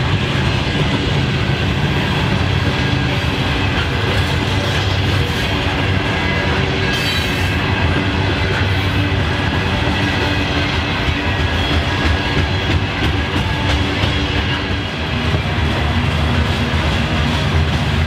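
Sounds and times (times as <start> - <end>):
freight train rumbling past: 0.0 - 18.0
wheels clickety-clack on rails: 0.0 - 18.0.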